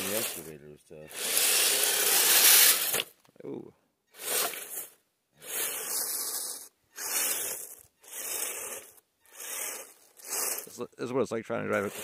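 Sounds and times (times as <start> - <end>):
rc vehicle scraping over icy snow: 0.0 - 3.1, 4.1 - 12.0.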